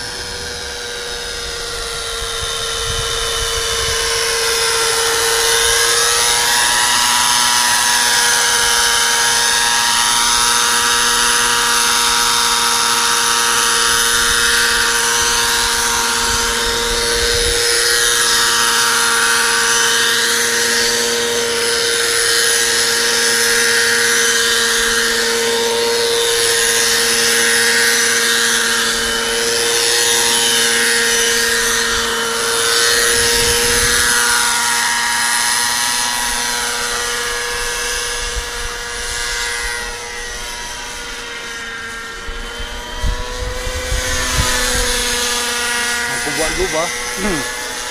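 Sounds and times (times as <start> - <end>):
model helicopter engine and rotors: 0.0 - 47.9.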